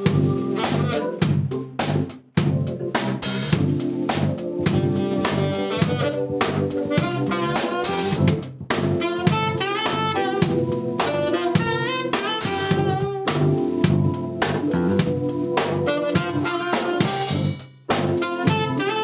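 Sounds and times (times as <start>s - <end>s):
saxophone melody: 0.0s - 1.7s, 3.6s - 19.0s
drum kit beat: 0.0s - 19.0s
electric bass: 0.0s - 19.0s.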